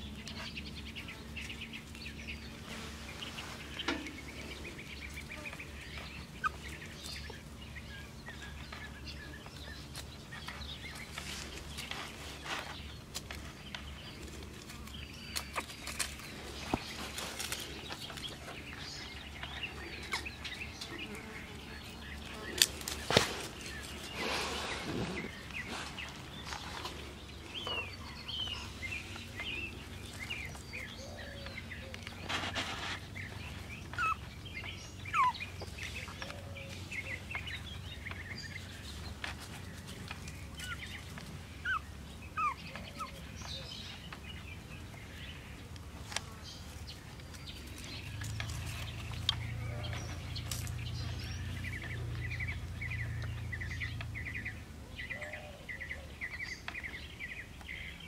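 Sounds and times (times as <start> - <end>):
birds chirping: 0.0 - 58.0
low steady hum: 0.0 - 58.0.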